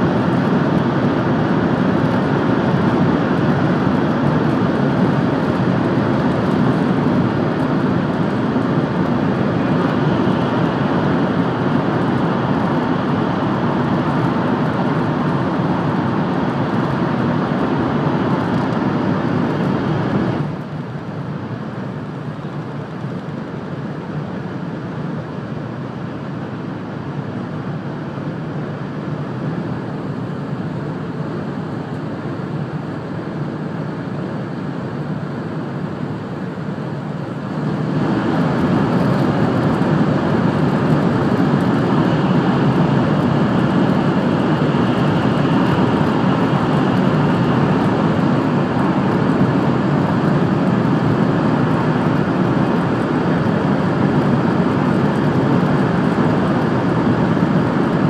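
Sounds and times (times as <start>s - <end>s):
train running noise inside cabin: 0.0s - 58.0s.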